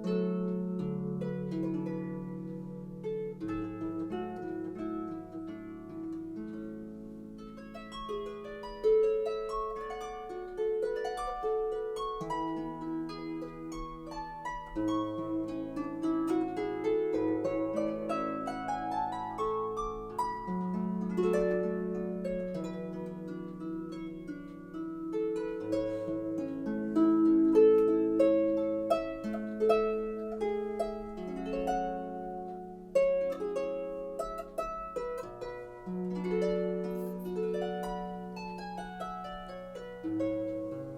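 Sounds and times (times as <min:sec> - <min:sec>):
harp music: 0:00.0 - 0:40.9.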